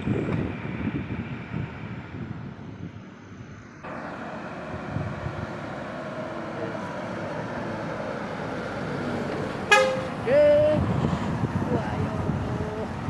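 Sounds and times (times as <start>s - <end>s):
heavy vehicle engine and tyre noise: 0.0s - 13.0s.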